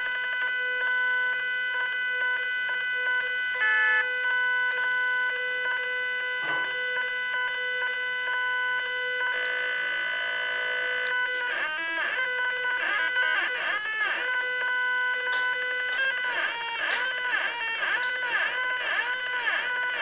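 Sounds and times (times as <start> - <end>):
stepper motors whining: 1.2 - 20.0.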